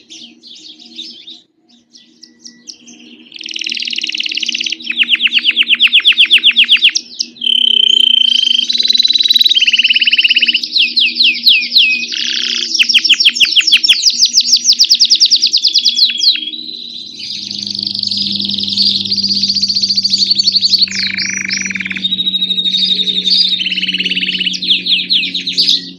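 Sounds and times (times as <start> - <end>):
canary singing: 0.0 - 25.9.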